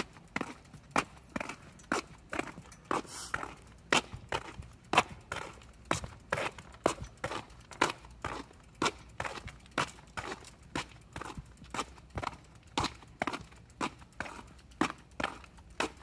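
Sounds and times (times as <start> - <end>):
footsteps on asphalt: 0.0 - 16.0.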